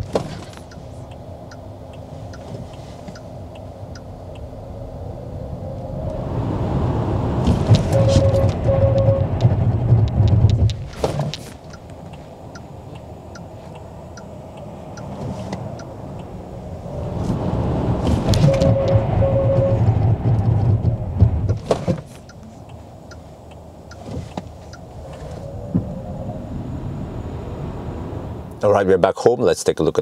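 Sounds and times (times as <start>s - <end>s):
road and tyre rumble: 0.0s - 30.0s.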